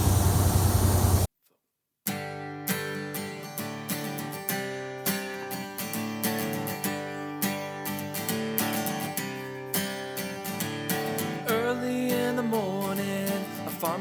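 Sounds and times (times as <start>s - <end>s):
acoustic guitar strumming: 2.1s - 14.0s.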